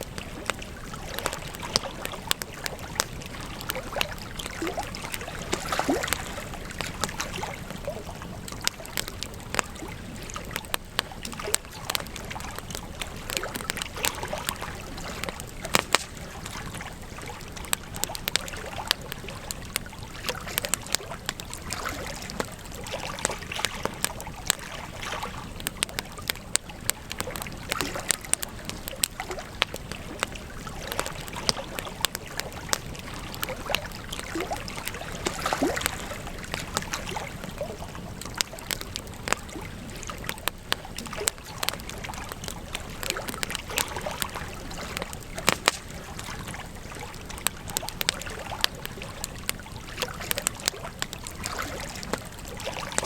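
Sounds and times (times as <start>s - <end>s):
hiss of burning fire: 0.0s - 21.7s, 22.3s - 53.0s
campfire pops and snaps: 0.0s - 53.0s.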